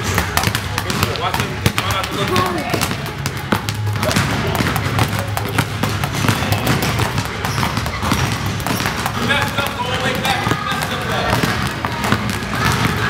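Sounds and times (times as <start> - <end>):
basketballs bouncing on wooden floor: 0.0 - 13.0.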